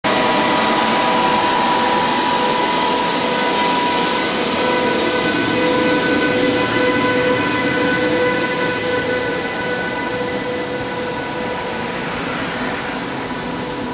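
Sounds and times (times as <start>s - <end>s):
high whine: 0.0s - 13.9s
train wheels rumbling on rail: 0.0s - 13.9s.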